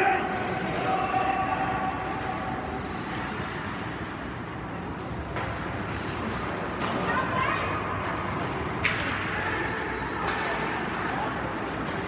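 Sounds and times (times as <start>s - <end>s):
ice hockey rink noise: 0.0s - 12.0s.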